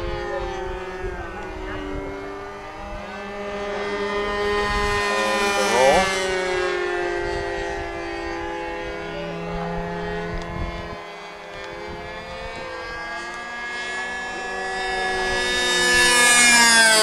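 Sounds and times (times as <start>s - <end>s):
model airplane engine buzzing: 0.0s - 17.0s.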